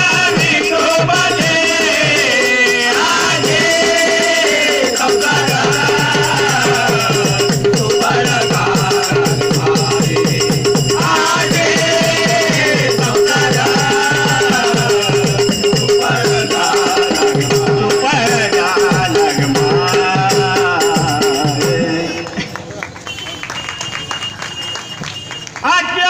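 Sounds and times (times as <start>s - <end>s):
hand cymbals jingling: 0.0s - 22.4s
voices singing devotional song: 0.0s - 22.6s.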